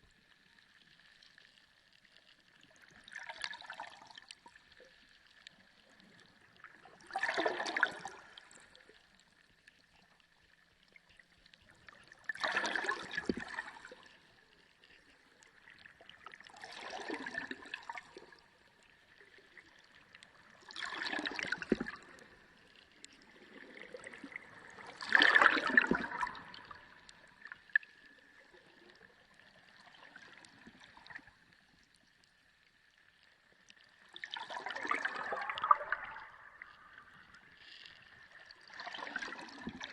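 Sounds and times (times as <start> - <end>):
sea water surging and gurgling: 0.0 - 39.9.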